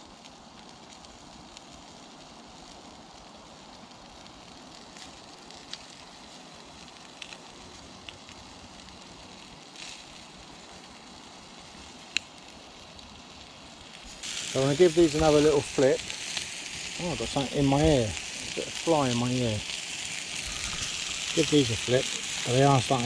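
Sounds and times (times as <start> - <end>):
food sizzling on a griddle: 0.0 - 23.0.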